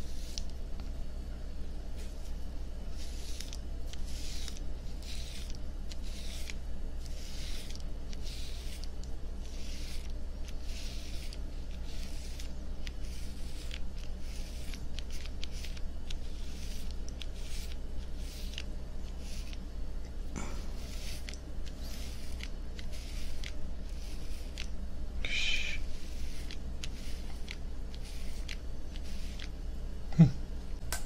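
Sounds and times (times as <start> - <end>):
razor scraping stubble: 0.0 - 0.6, 2.0 - 29.6
low hum: 0.0 - 31.0.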